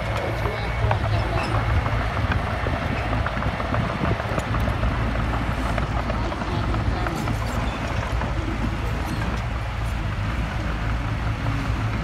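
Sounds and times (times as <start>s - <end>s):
steel tracks clanking and rattling: 0.0s - 11.0s
bulldozer diesel engine under load: 0.0s - 12.0s.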